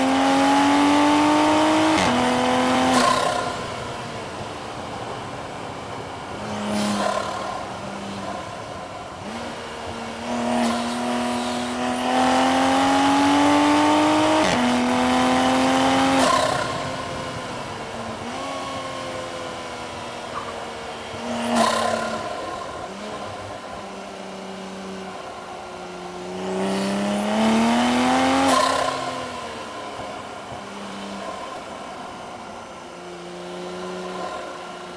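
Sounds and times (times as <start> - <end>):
car engine accelerating: 0.0 - 23.8, 26.3 - 31.7.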